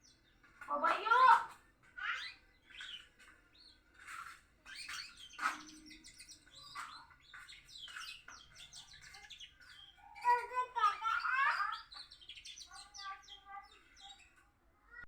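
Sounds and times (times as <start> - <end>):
canary chirps and trills: 0.0 - 15.0.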